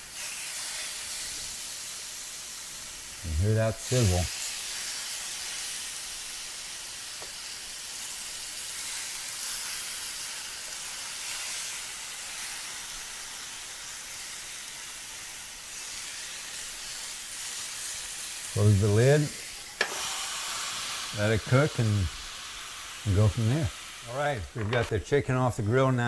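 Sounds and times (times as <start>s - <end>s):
chicken sizzling on a grill: 0.0s - 26.0s.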